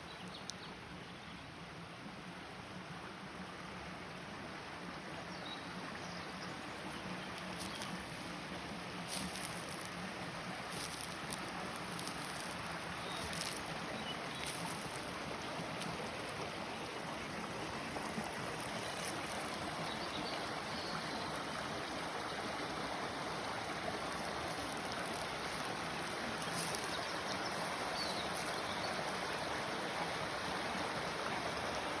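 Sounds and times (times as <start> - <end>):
running water rushing: 3.8 - 32.0.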